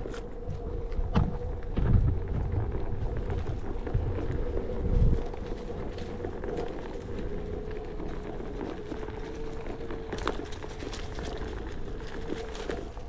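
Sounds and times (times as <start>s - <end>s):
electric motor whine: 0.0s - 13.0s
twigs and leaves crackling: 0.0s - 13.0s
tyre rumble on dirt: 0.0s - 13.0s.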